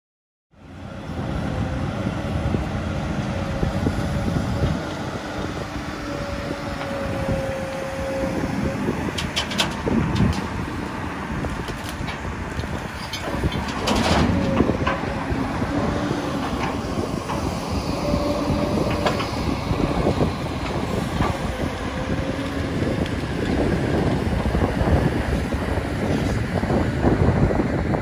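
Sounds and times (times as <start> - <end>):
heavy machinery working: 0.6 - 28.0.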